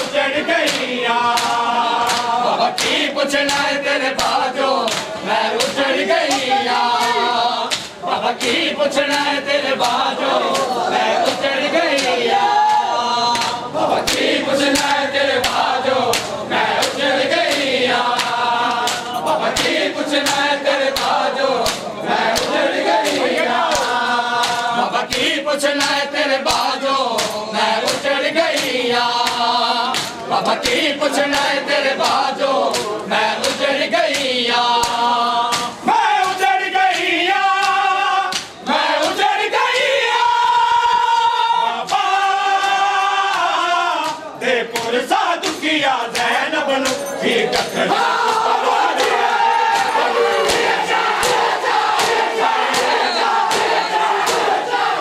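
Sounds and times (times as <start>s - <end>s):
hand slaps on bare chests: 0.0s - 40.0s, 41.8s - 55.0s
crowd of men chanting: 0.0s - 55.0s.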